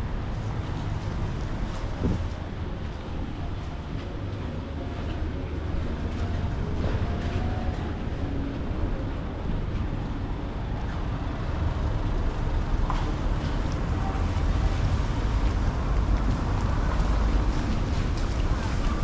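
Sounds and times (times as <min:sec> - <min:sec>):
street rumble: 0:00.0 - 0:19.0.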